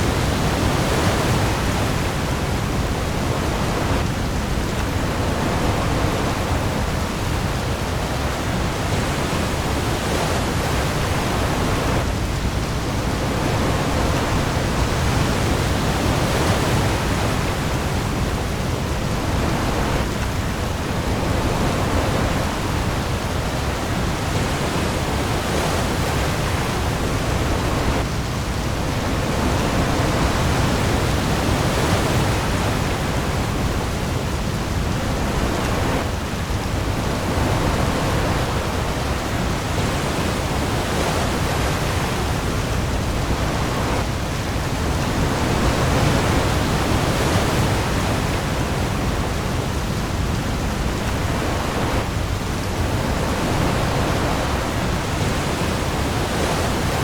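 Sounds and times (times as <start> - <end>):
heavy rain on the sea: 0.0 - 57.0.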